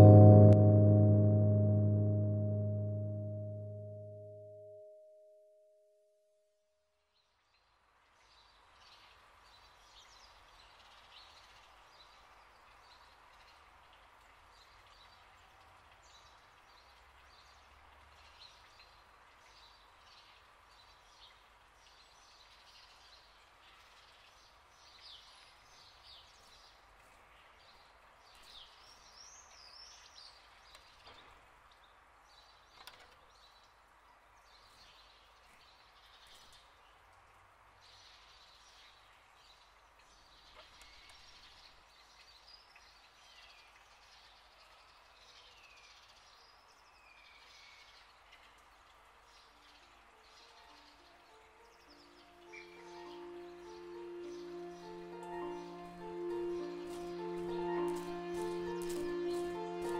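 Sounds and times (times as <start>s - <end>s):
low background hiss: 7.1s - 59.9s.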